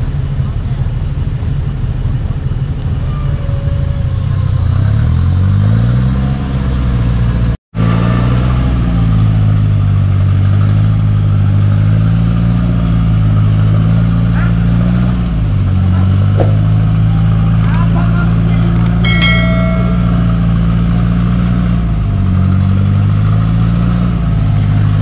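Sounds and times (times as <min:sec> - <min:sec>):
off-road engines revving in mud: 0:00.4 - 0:19.1, 0:19.8 - 0:25.0.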